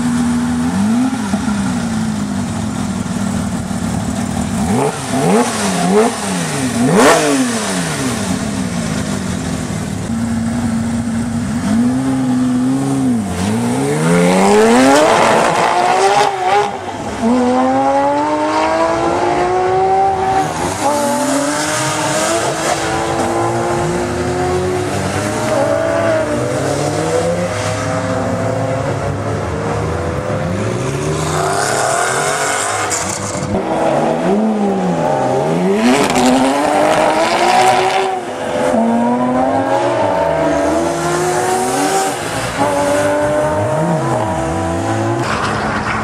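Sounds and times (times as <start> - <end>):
sports car engine revving: 0.2 - 46.0.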